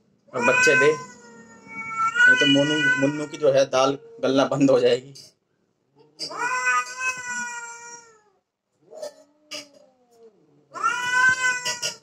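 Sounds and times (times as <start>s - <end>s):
cat yowling: 0.4s - 4.3s, 6.3s - 12.0s.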